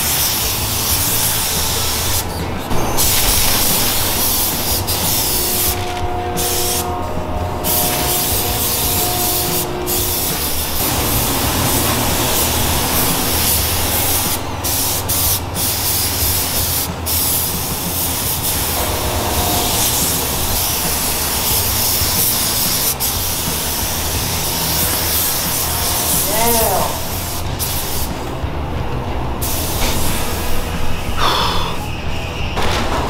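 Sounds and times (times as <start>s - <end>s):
spray gun hissing: 0.0s - 28.4s, 29.4s - 32.0s.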